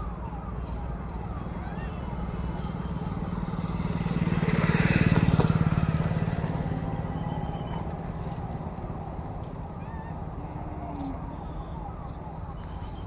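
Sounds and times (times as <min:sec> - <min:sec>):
vehicle engine passing by: 0:00.0 - 0:12.2.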